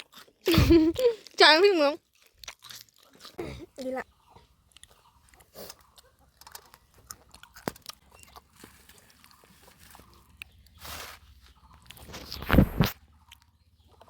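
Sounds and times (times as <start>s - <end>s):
person chewing crunchy food: 0.0s - 1.4s, 2.0s - 14.0s.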